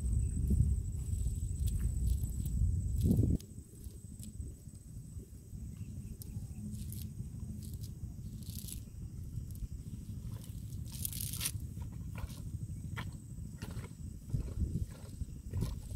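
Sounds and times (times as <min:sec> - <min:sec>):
wind rumble on microphone: 0:00.0 - 0:15.9.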